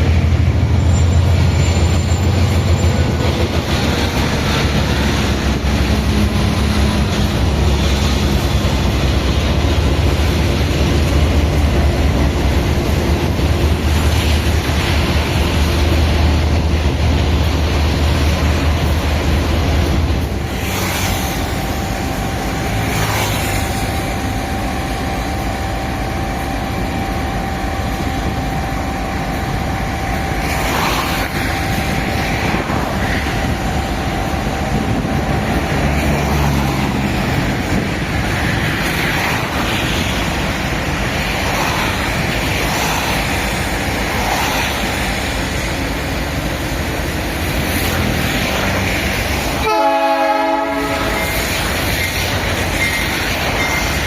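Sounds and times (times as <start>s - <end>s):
freight train rumble: 0.0s - 54.0s
steady whine: 0.0s - 54.0s.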